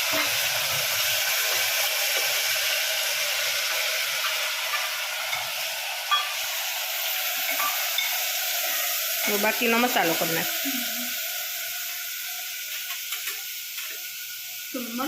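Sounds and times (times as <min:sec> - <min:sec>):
beans sizzling in hot oil: 0:00.0 - 0:15.0.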